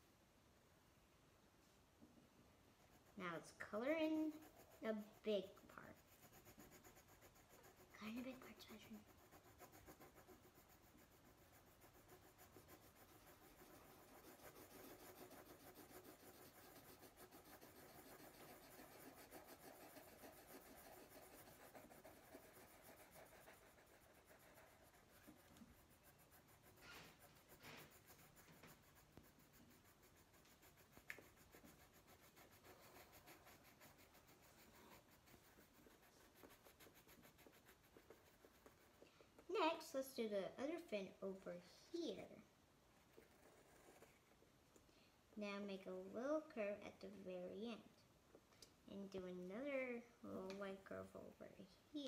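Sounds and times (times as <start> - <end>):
pencils scratching on paper: 2.8 - 44.4, 48.9 - 52.0.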